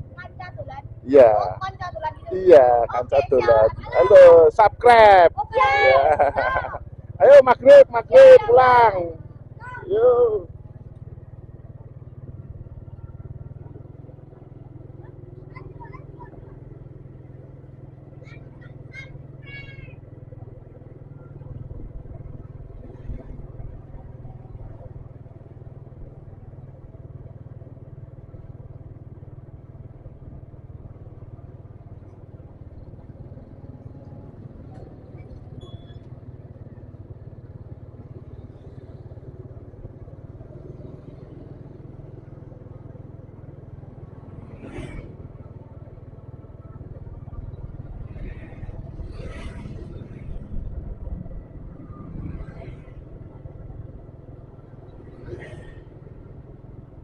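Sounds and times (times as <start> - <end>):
motorcycle engine running: 0.0 - 57.0
passing traffic: 0.0 - 57.0
wind and road rumble: 0.0 - 57.0.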